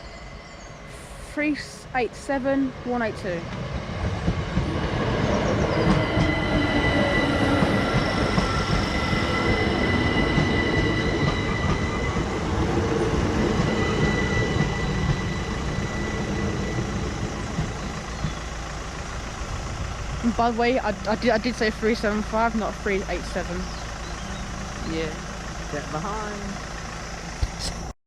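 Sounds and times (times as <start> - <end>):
high whine of train motors: 0.0 - 27.9
train wheels rumbling on rails: 0.0 - 27.9.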